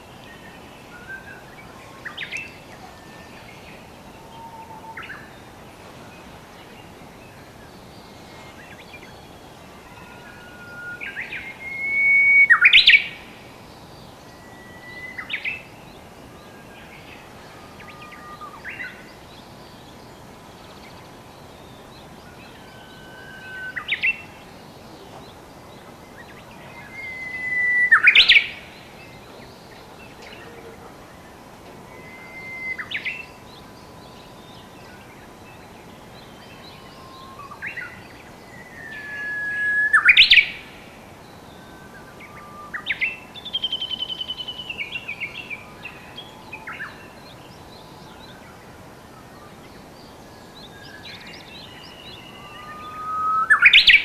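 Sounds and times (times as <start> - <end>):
bush warbler singing: 0.0 - 54.0.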